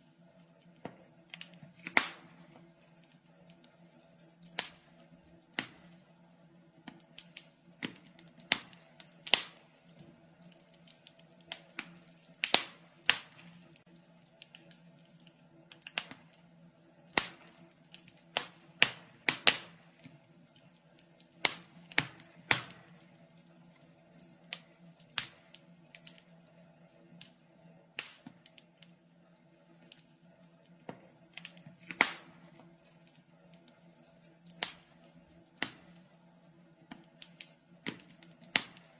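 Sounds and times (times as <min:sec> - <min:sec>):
fireplace fire crackling: 0:00.0 - 0:38.9.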